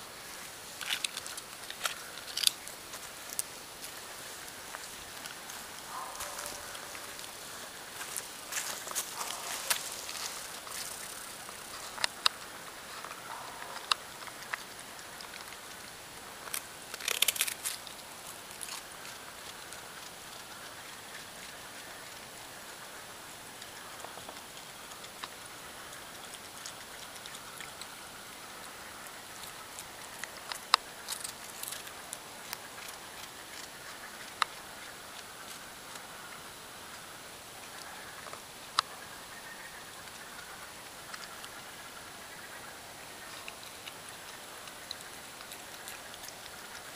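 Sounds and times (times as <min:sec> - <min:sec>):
raccoon crunching crackers: 0:00.1 - 0:46.9.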